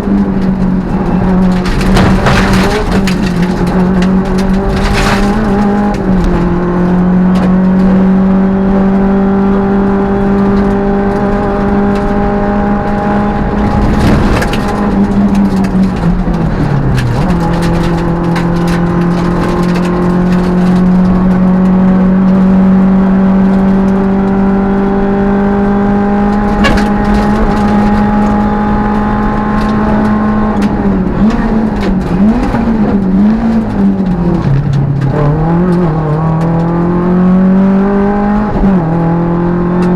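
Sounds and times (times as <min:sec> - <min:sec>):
rally car engine at high revs: 0:00.0 - 0:39.9.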